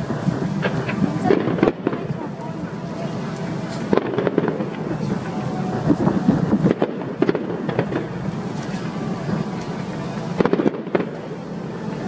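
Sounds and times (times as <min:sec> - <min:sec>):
fireworks bursting: 0:00.0 - 0:12.0
steady background din: 0:00.0 - 0:12.0.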